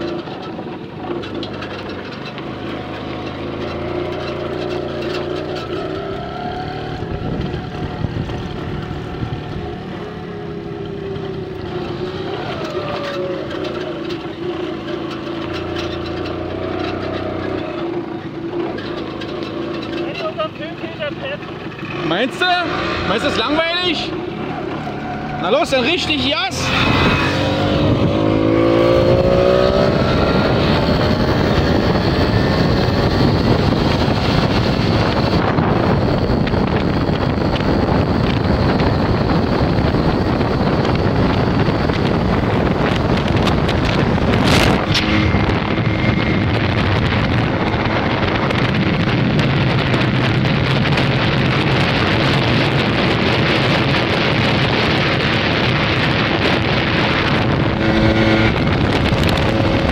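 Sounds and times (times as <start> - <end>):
moped engine running: 0.0 - 59.9
wind rushing over microphone: 3.0 - 19.6, 20.4 - 59.9.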